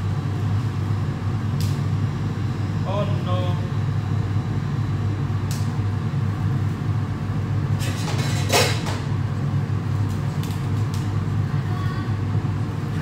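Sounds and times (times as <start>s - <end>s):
extractor hood fan humming: 0.0s - 13.0s.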